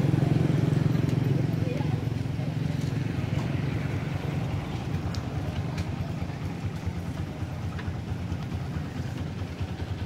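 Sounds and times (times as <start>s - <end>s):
engine rumbling with pulsing beat: 0.0s - 10.0s.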